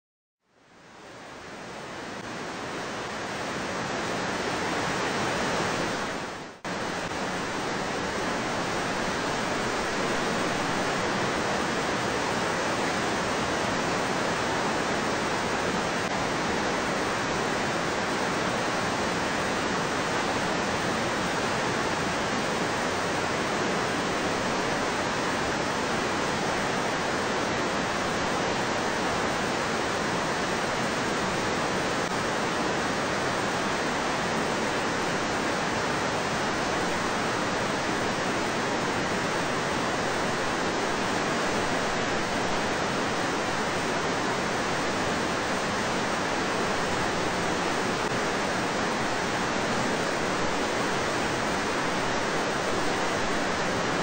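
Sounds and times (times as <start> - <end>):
stream rushing over rocks: 0.8 - 54.0.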